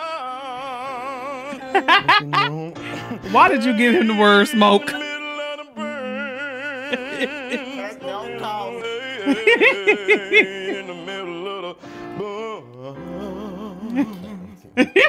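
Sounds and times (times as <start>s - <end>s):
man singing with vibrato: 0.0s - 15.0s.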